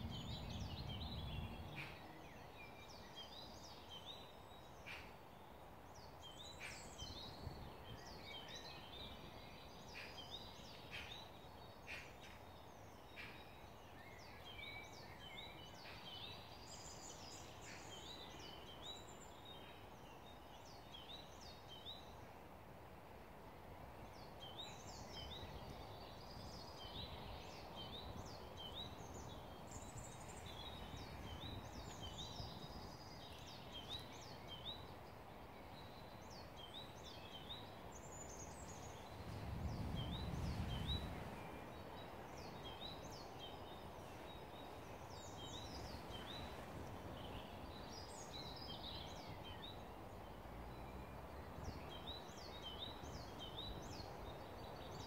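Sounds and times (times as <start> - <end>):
small birds chirping and trilling: 0.0 - 22.3, 24.0 - 55.0.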